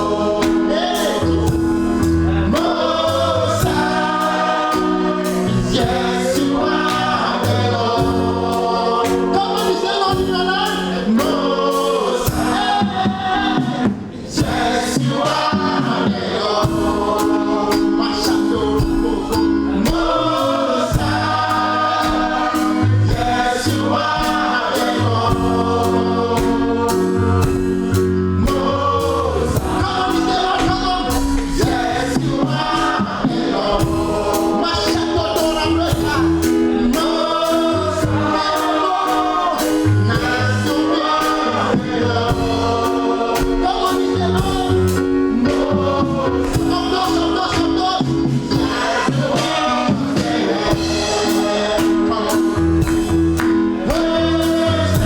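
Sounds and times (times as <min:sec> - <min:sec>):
bass line: 0:00.0 - 0:55.0
gospel choir singing: 0:00.0 - 0:55.0
instrumental backing with beat: 0:00.0 - 0:55.0.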